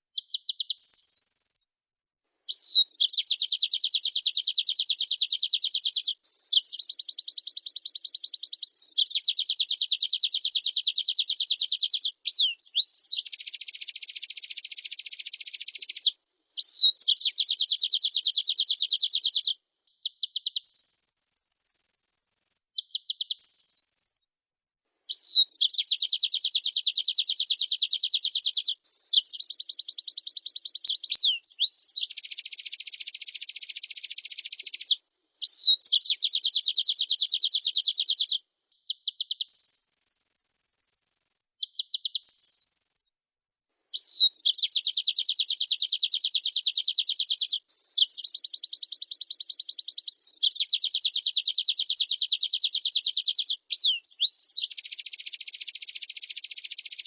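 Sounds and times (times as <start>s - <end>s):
bird singing fast trills: 0.2s - 1.6s, 2.5s - 24.2s, 25.2s - 43.1s, 44.0s - 57.0s.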